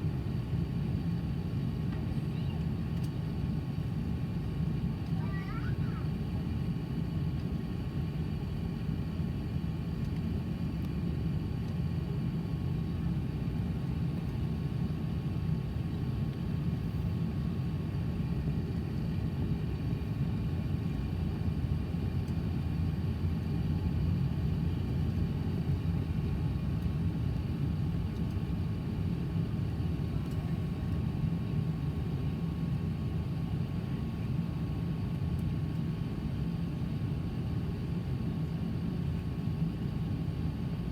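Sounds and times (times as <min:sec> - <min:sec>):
jet engines heard from cabin: 0:00.0 - 0:40.9.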